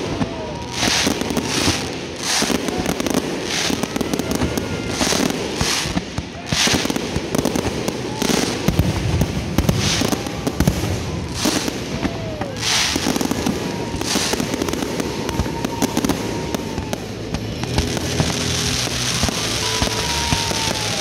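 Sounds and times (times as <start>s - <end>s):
fireworks bursts and crackling bangs: 0.0s - 21.0s
fireworks hissing: 0.0s - 21.0s
fireworks whistling: 0.0s - 21.0s.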